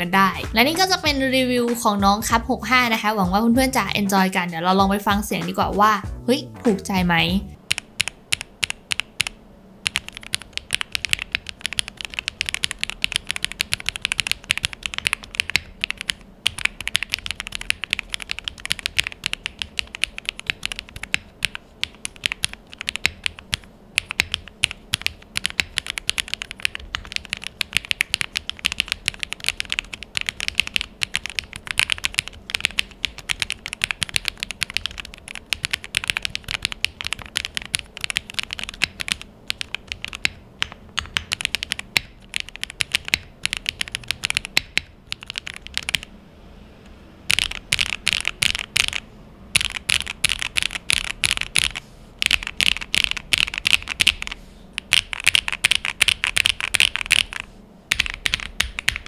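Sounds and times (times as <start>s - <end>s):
fast typing on mechanical keyboard: 7.7s - 46.1s, 47.2s - 59.0s.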